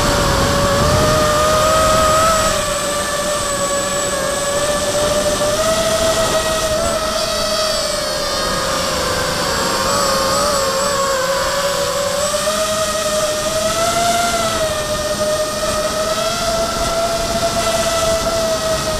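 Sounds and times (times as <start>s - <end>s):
quadcopter motors whining: 0.0s - 18.9s.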